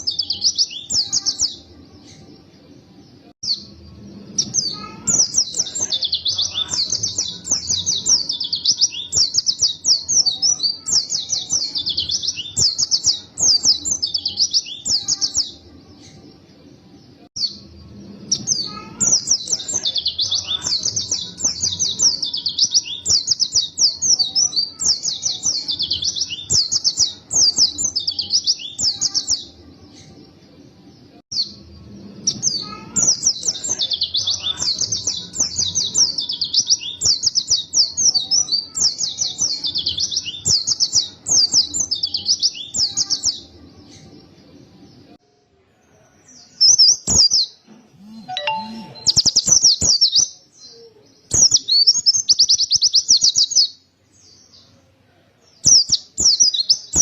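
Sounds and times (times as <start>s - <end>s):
bird singing high chattering song: 0.0s - 30.4s, 31.3s - 45.1s, 46.4s - 54.7s, 55.5s - 57.0s.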